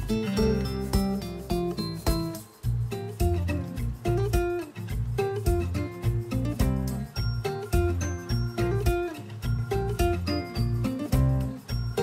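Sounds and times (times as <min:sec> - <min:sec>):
bass line: 0:00.0 - 0:12.0
plucked guitar music: 0:00.0 - 0:12.0.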